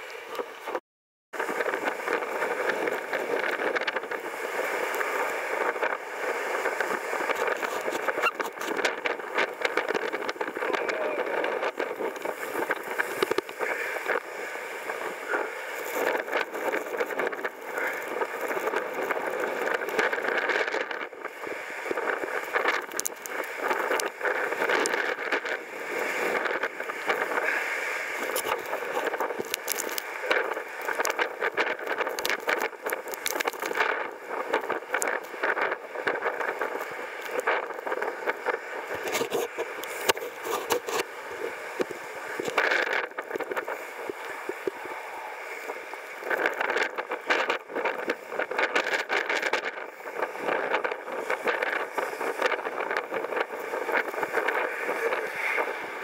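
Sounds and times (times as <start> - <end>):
blizzard wind rushing: 1.4 - 56.0
wind crackles on microphone: 1.4 - 56.0.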